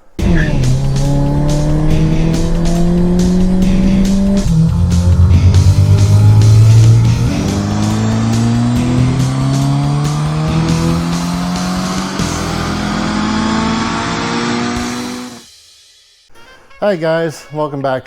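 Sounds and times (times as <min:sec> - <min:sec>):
car engine accelerating: 0:00.0 - 0:15.5
background music: 0:00.0 - 0:18.0.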